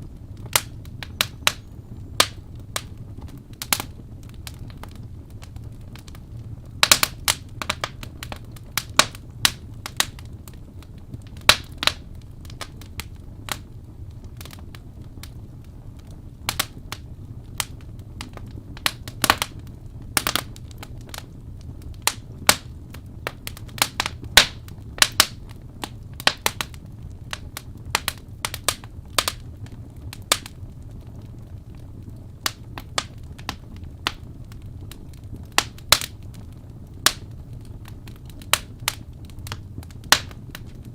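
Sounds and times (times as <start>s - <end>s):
logs crackling and popping: 0.0s - 40.9s
low rumble of fire: 0.0s - 40.9s.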